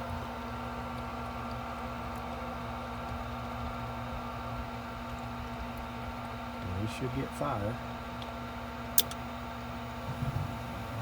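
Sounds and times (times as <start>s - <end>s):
furnace draft motor humming: 0.0s - 11.0s.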